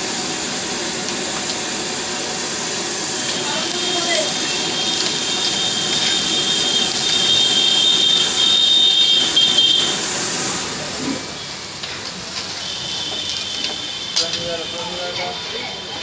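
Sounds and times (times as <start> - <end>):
food sizzling in a pan: 0.0 - 16.0
stove flames roaring: 0.0 - 16.0.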